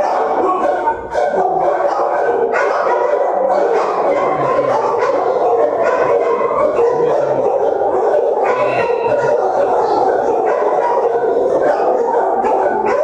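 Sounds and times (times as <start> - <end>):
many dogs barking: 0.0 - 13.0.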